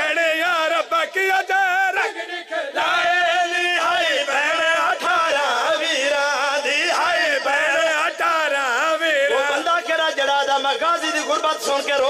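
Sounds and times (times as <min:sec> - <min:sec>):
men singing a wavering chant: 0:00.0 - 0:12.0.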